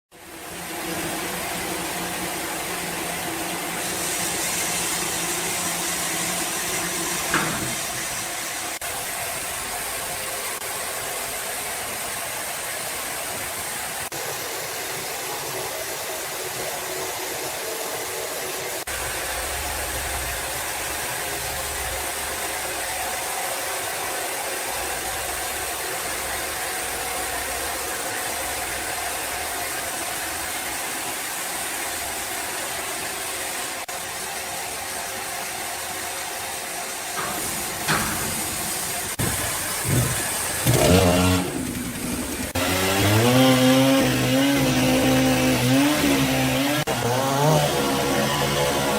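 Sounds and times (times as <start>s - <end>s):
machinery hum and hiss: 0.2s - 42.6s.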